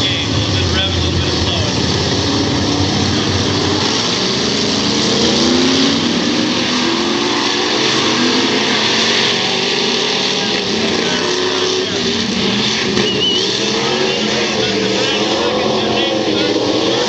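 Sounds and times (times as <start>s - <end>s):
stock car engines revving: 0.0s - 17.0s.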